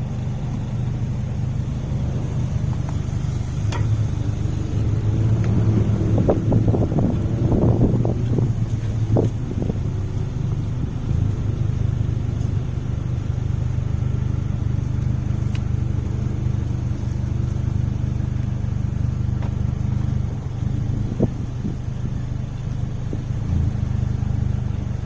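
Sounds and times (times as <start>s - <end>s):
motor humming: 0.0s - 24.3s.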